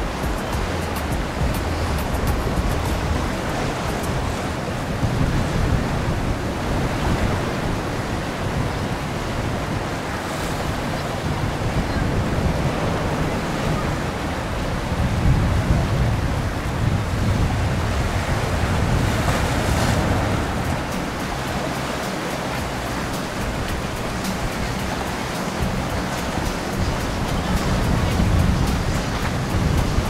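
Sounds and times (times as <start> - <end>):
water rushing past boat: 0.0 - 30.0
wind buffeting microphone: 0.0 - 30.0.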